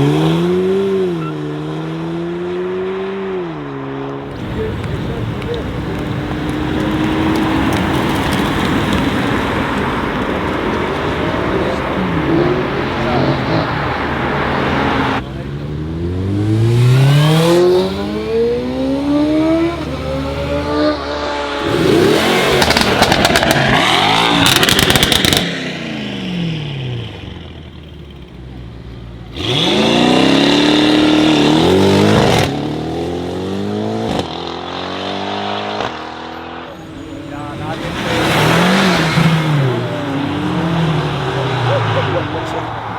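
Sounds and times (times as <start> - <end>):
loud engine rev: 0.0 - 9.9, 10.9 - 27.4, 29.3 - 42.9
cars accelerating: 0.0 - 42.9.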